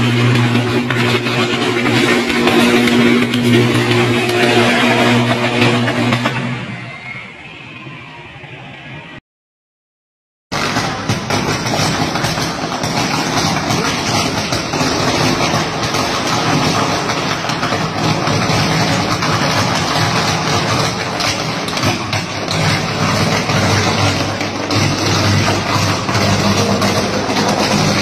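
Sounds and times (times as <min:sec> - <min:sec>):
electrical crackling: 0:00.0 - 0:06.7, 0:10.5 - 0:28.0.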